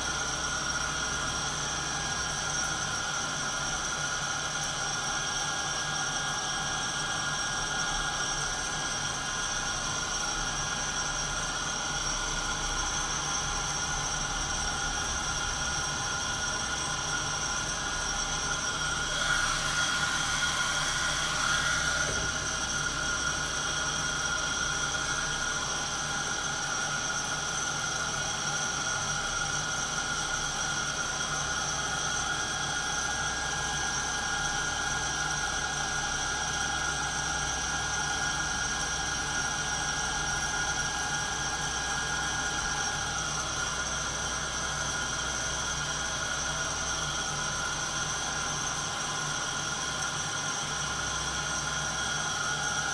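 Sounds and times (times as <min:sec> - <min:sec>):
coffee roaster whirring: 0:00.0 - 0:52.9.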